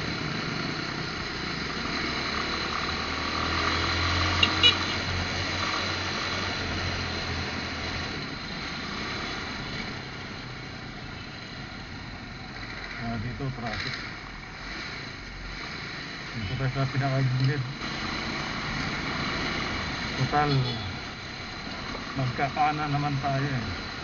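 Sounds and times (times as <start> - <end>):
motorcycle engine hum: 0.0 - 24.0
road and wind noise: 0.0 - 24.0.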